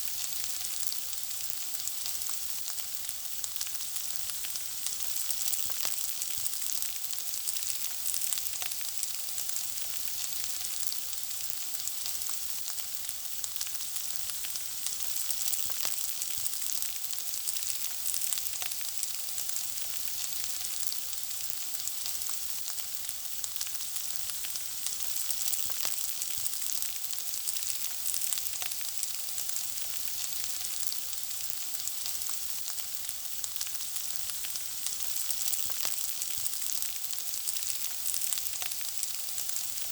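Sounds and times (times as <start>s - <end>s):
food sizzling: 0.0s - 39.9s.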